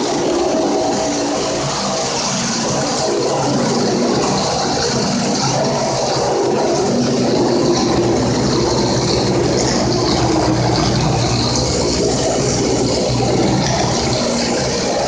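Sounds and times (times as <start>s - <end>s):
grout cleaning tool spraying and suction: 0.0s - 15.0s.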